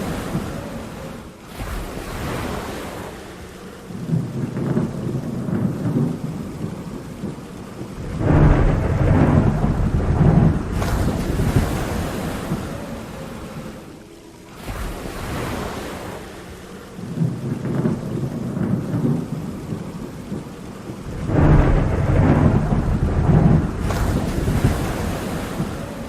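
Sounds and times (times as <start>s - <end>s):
rough sea: 0.0s - 26.0s
steady rain: 0.0s - 26.0s
thunder rumbling: 0.0s - 26.0s.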